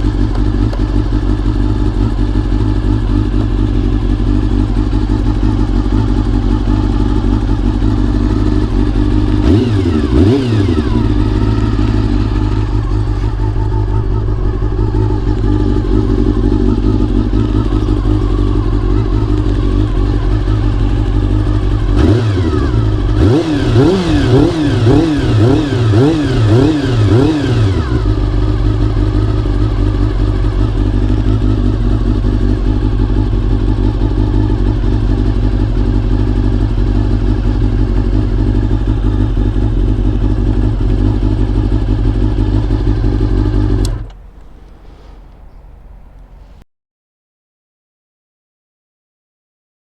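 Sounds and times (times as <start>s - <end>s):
motorcycle engine idling: 0.0s - 46.6s
motorcycle throttle blips: 0.0s - 46.6s.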